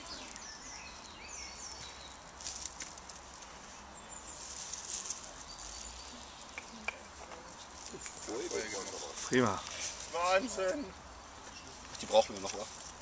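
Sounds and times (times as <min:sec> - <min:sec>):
dry grass crackling: 0:00.0 - 0:10.9.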